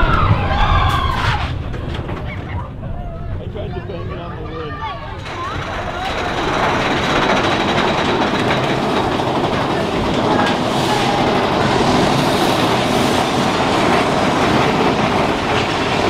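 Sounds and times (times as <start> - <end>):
roller coaster cars rattling: 0.0 - 16.0.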